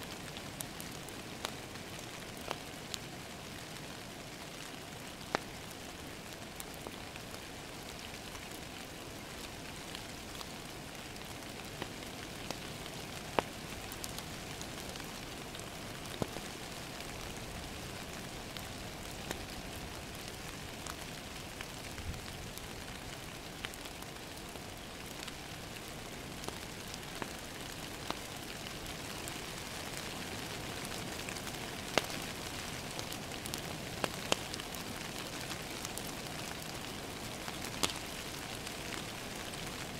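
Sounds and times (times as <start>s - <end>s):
rain pattering on a window: 0.0s - 39.9s
wood fire crackling and popping: 0.1s - 39.9s.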